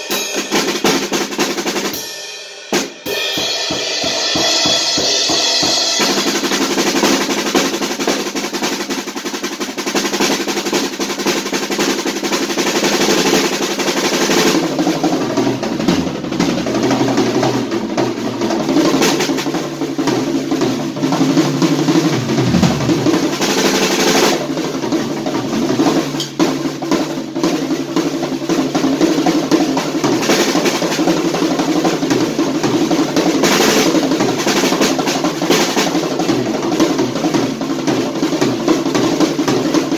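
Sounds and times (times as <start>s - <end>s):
snare rolls and tom fills: 2.7s - 39.9s.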